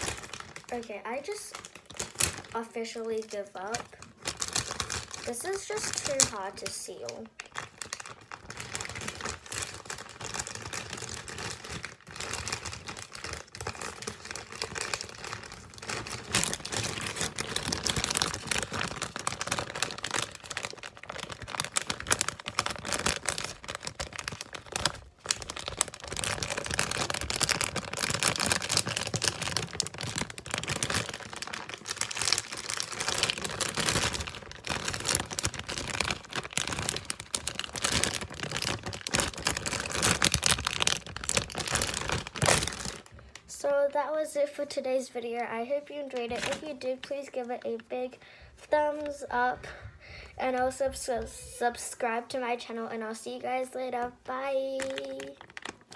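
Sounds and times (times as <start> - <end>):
plastic bag crinkling: 0.0 - 43.5, 45.6 - 49.2, 54.3 - 55.9.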